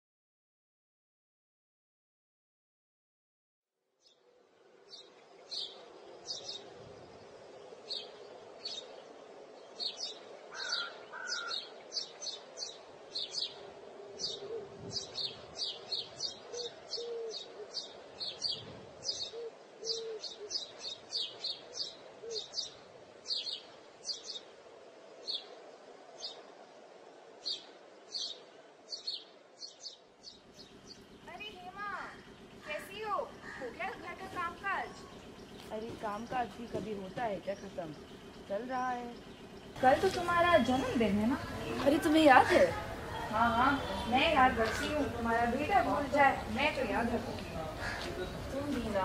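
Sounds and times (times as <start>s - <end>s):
birds chirping: 4.0s - 49.0s
lower bird calls: 4.0s - 49.0s
low hum: 4.2s - 49.0s.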